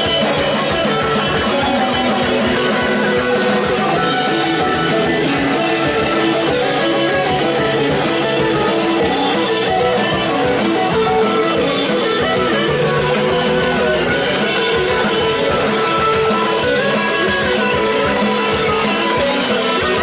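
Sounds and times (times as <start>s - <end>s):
distorted electric guitars: 0.0s - 20.0s
electronic drum kit: 0.0s - 20.0s.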